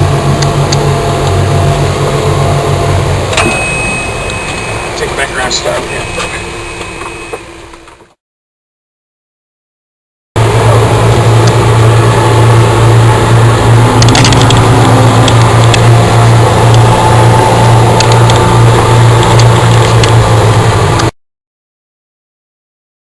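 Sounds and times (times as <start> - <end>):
boat engine humming: 0.0 - 8.1, 10.4 - 21.1.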